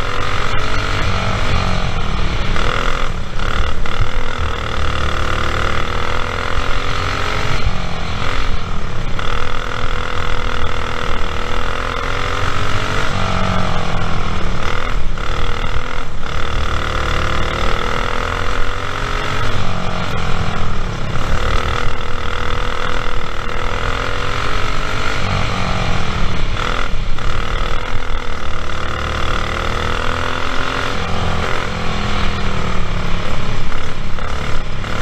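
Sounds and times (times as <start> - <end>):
kart engine at high revs: 0.0 - 35.0.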